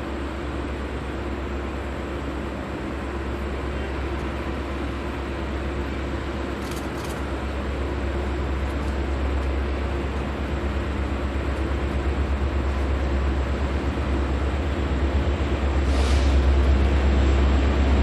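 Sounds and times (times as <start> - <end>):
distant diesel locomotives rumbling: 0.0 - 18.0.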